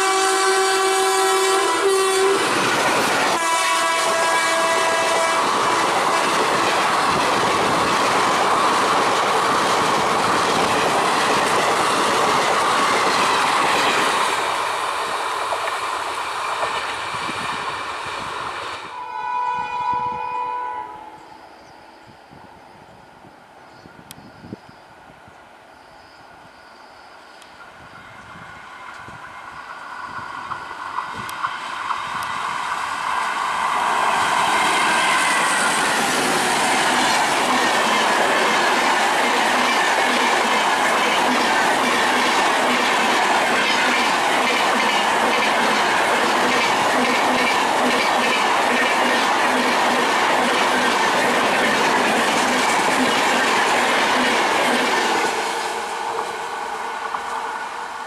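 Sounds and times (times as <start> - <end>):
train passing at speed: 0.0 - 58.0.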